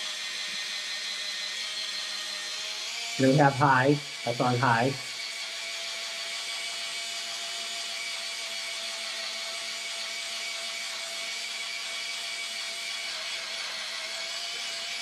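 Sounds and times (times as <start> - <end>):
spin scrubber motor whine: 0.0 - 15.0.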